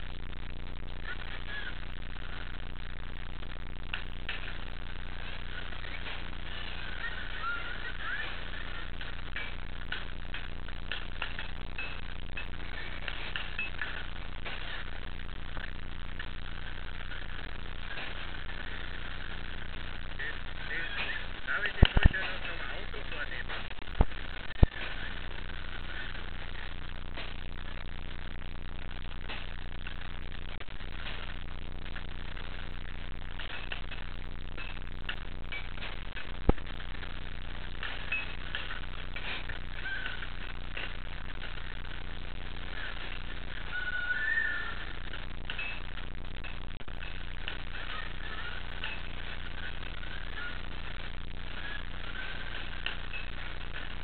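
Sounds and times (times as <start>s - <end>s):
low hum: 0.0s - 54.0s.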